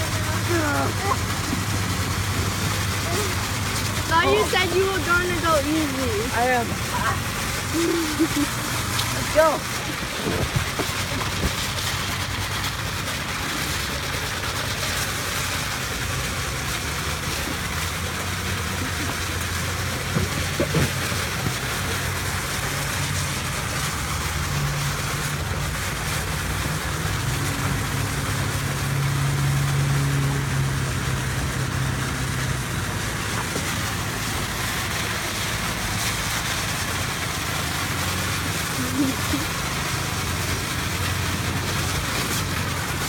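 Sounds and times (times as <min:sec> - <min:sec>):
low engine-like hum: 0:00.0 - 0:43.0
sprinkler spraying water: 0:00.0 - 0:43.0.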